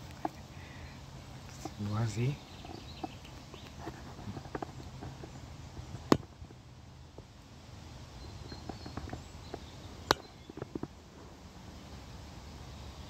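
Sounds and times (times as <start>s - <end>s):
low outdoor rush: 0.0s - 13.0s.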